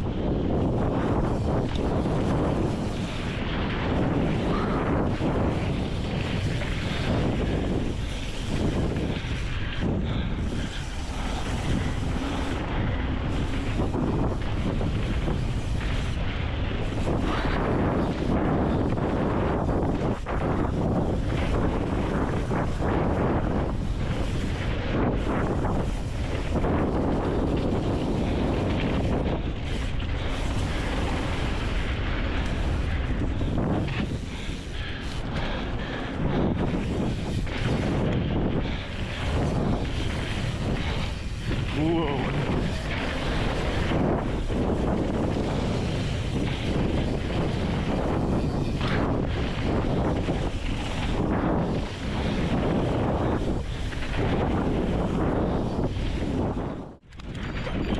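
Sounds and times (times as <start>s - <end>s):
bike rattling: 0.0s - 57.9s
tyres rolling on dirt: 0.0s - 57.9s
wind rushing over microphone: 0.0s - 57.9s.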